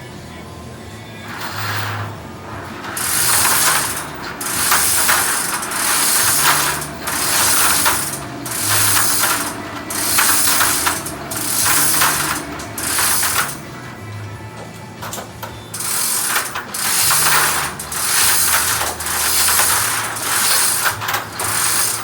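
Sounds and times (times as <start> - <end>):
ratcheting hoist pawl clicking: 1.3 - 22.0.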